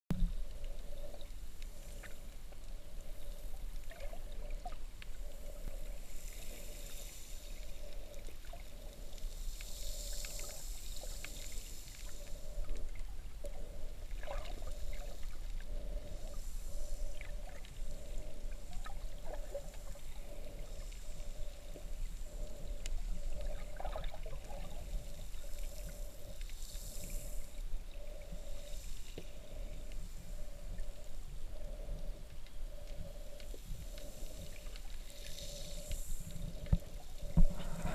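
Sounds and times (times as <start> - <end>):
faint clicks and crackles: 0.1 - 37.9
underwater low rumble: 0.1 - 37.9
hiss: 5.3 - 37.9.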